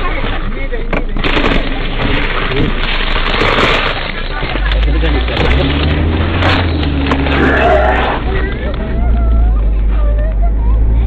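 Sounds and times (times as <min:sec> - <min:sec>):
car engine low drone: 0:00.0 - 0:11.0.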